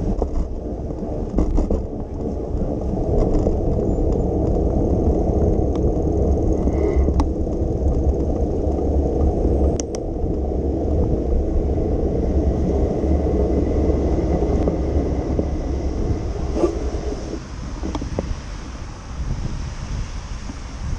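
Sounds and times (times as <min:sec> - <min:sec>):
tyres on wet pavement: 0:00.0 - 0:20.9
wind on microphone: 0:00.0 - 0:20.9.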